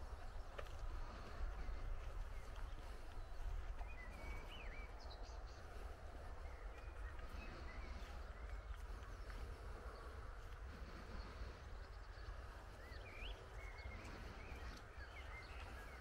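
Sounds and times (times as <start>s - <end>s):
faint bird calls: 0.0s - 16.0s
wind rumbling on microphone: 0.0s - 16.0s.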